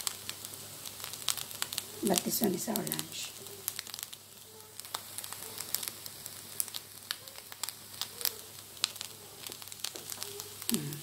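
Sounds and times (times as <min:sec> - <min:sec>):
rice crackling in frying pan: 0:00.0 - 0:11.0
sharp pops: 0:00.0 - 0:11.0.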